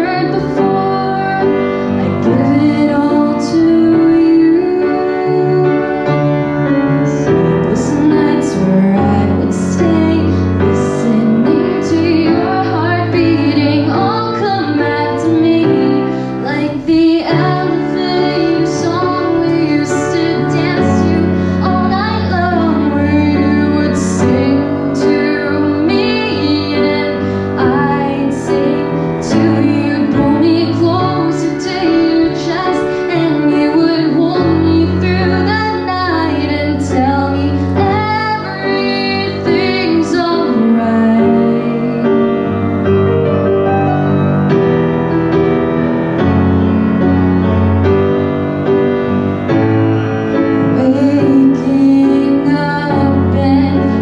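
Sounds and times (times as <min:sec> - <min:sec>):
woman singing slow song: 0:00.0 - 0:06.2, 0:07.1 - 0:42.4, 0:50.7 - 0:54.0
grand piano: 0:00.0 - 0:54.0.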